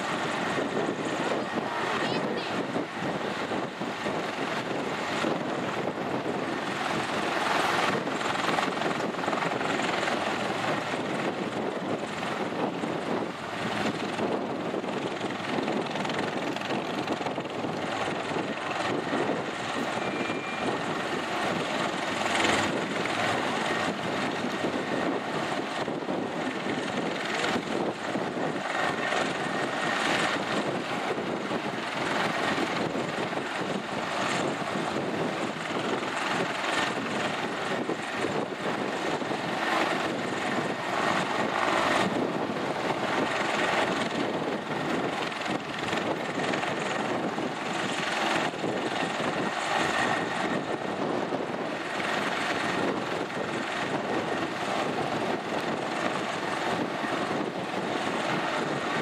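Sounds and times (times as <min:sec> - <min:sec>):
helicopter turbines and rotor running: 0:00.0 - 0:59.0.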